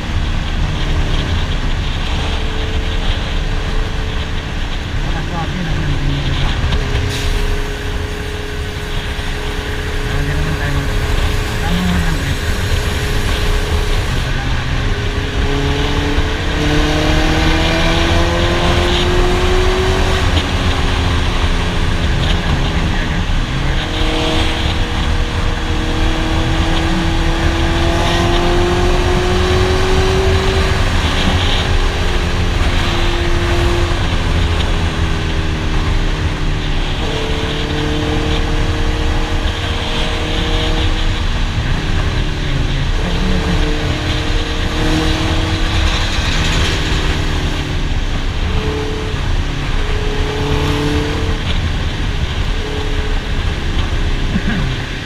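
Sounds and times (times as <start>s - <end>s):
motorcycle engine at speed: 0.0s - 55.0s
wind rumble on microphone: 0.0s - 55.0s.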